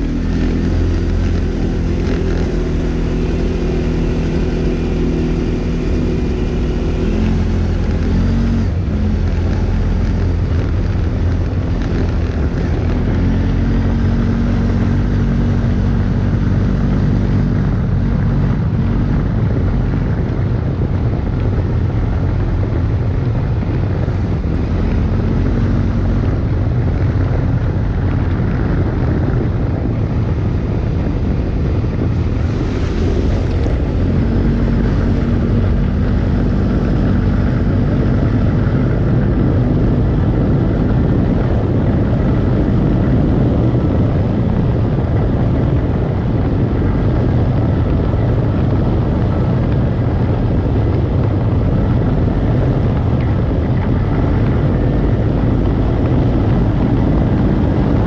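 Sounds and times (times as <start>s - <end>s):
quad engine running: 0.0s - 58.0s
tyres rumbling on dirt: 0.0s - 58.0s
wind on microphone: 0.0s - 58.0s.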